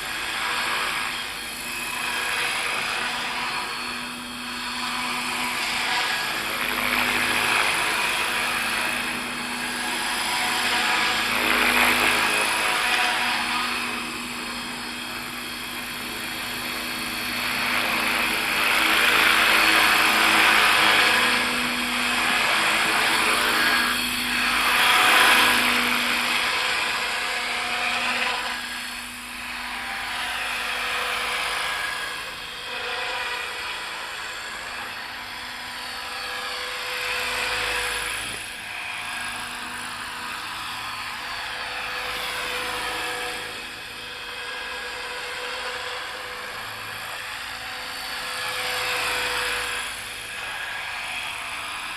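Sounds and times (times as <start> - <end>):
model helicopter rotor whine: 0.0 - 51.9.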